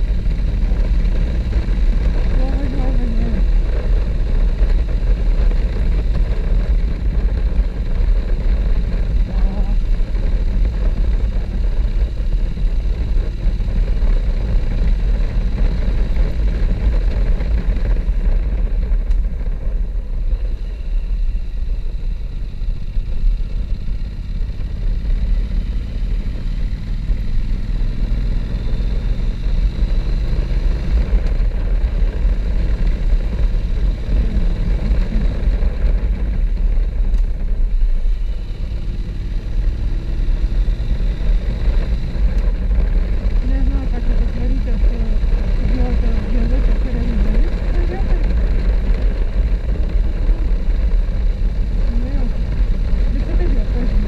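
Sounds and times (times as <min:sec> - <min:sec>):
motorcycle engine running: 0:00.0 - 0:54.0
wind rumbling on microphone: 0:00.0 - 0:54.0.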